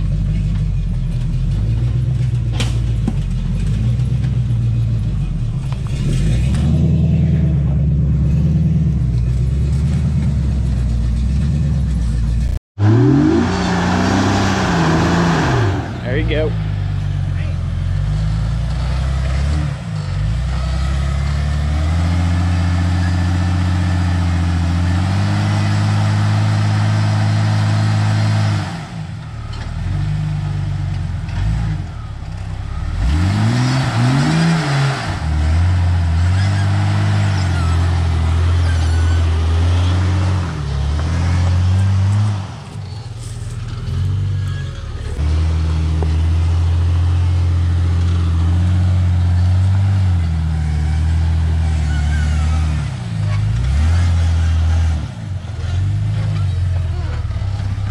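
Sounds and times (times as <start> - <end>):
engine revving: 0.0 - 57.9.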